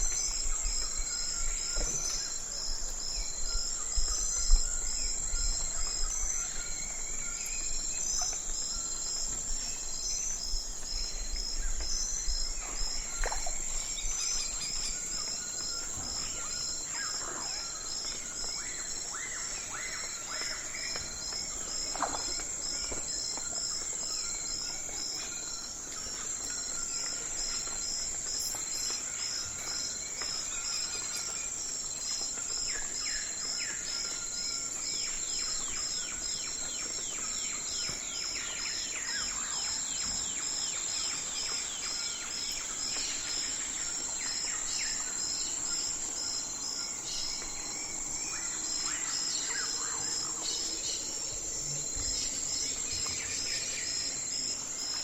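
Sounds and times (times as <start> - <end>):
crickets chirping: 0.0 - 55.0
high insect trill: 0.0 - 55.0.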